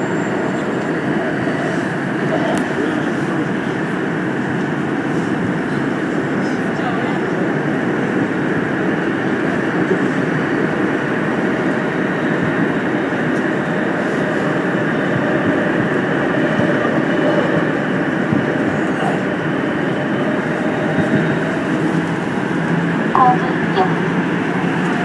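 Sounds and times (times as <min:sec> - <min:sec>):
subway train rumbling in tunnel: 0:00.0 - 0:25.0.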